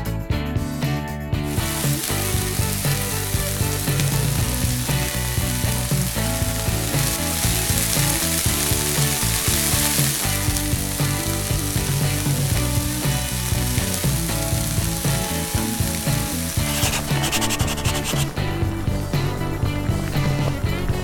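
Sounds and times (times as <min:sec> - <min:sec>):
background music: 0:00.0 - 0:21.0
food sizzling in oil: 0:01.5 - 0:18.3.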